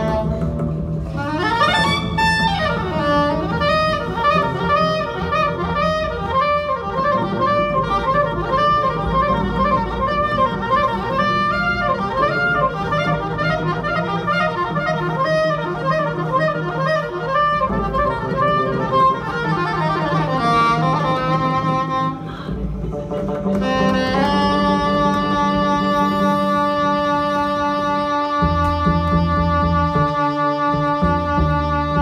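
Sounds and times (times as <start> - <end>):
clarinet melody: 0.0 - 32.0
double bass low note: 0.0 - 32.0
tar playing: 0.0 - 32.0.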